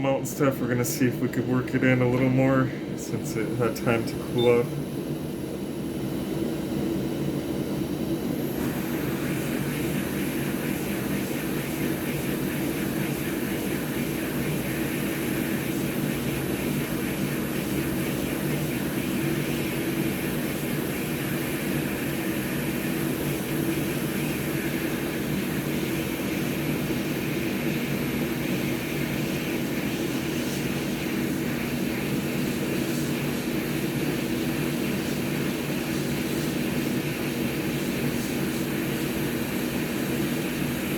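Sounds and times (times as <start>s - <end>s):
hot-air blower hissing: 0.0s - 40.9s.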